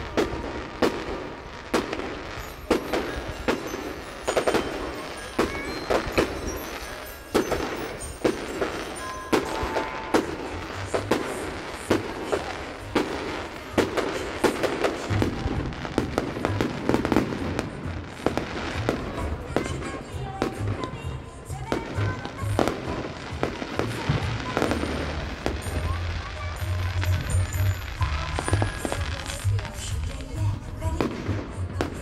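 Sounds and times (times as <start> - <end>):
firework shells bursting: 0.0 - 32.0
fireworks crackling: 0.0 - 32.0.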